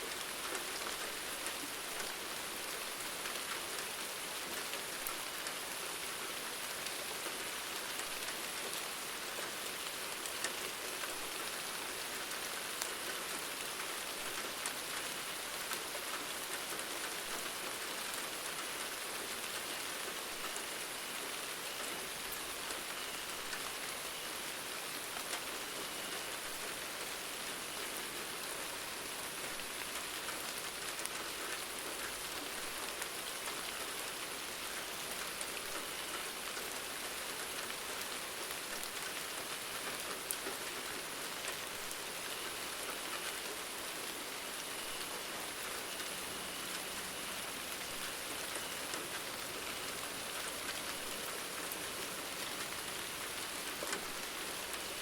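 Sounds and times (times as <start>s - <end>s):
rain on a hard surface: 0.0s - 55.0s.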